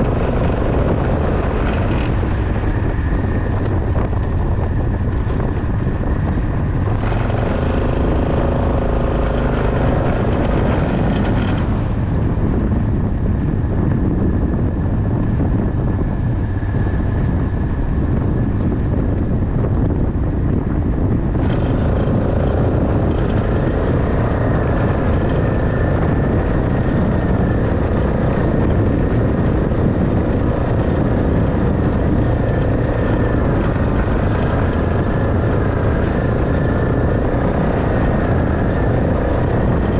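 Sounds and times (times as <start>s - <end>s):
farm vehicle engine running: 0.0s - 39.9s.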